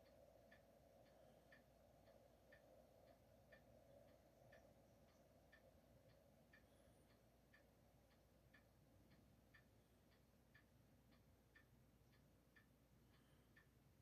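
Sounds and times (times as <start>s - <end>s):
clock ticking faintly: 0.0s - 14.0s.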